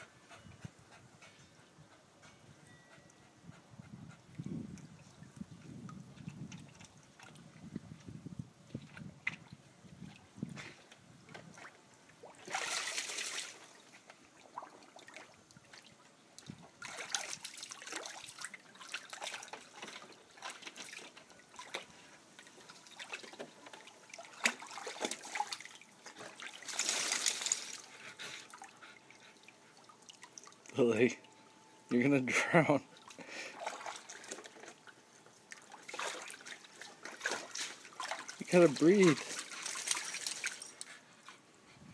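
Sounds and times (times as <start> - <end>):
hose trickling into water: 4.2 - 31.4, 32.7 - 41.6
water splashing in a plastic pool: 4.7 - 31.3, 31.9 - 41.4.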